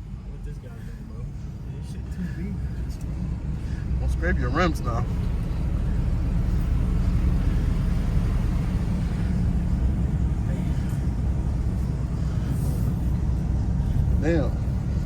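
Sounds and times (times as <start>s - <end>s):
pickup truck engine rumble: 0.0s - 15.0s.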